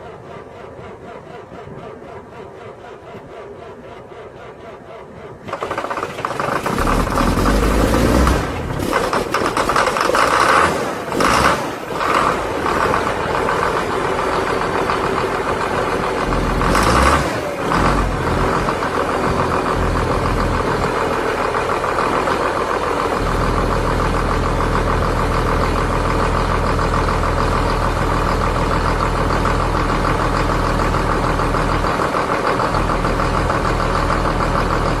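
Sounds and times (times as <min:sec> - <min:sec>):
deep steady drone: 0:00.0 - 0:35.0
tractor engine idling: 0:00.0 - 0:35.0.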